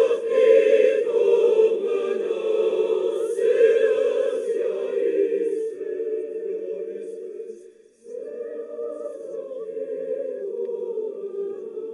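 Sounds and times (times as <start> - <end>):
choir singing held chords: 0.0 - 11.9.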